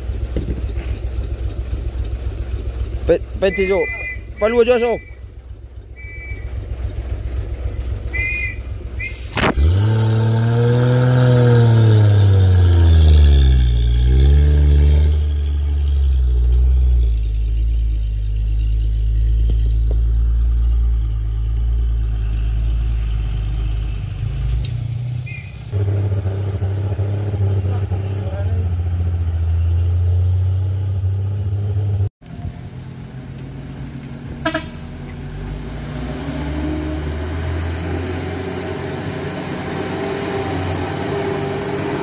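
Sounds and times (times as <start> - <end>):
truck diesel engine revving: 0.0 - 42.0.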